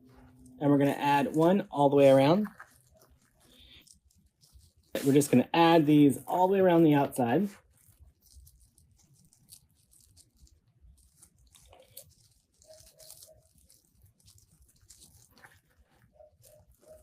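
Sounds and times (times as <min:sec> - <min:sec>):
crinkling and rustling of mesh: 0:00.0 - 0:17.0.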